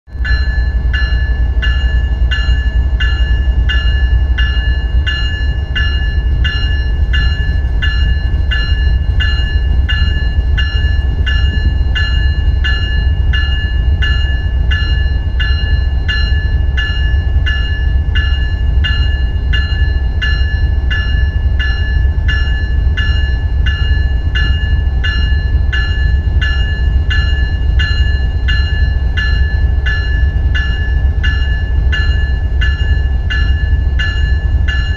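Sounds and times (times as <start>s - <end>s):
locomotive electronic bell ringing: 0.1s - 34.9s.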